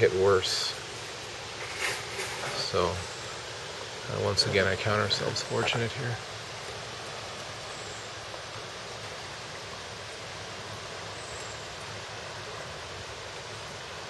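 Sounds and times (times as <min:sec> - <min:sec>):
steady wind blowing: 0:00.0 - 0:14.0.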